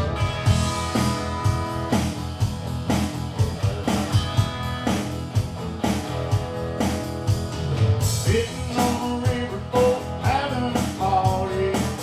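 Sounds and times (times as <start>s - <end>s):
electric guitar chords: 0.0s - 12.0s
live rock band playing: 0.0s - 12.0s.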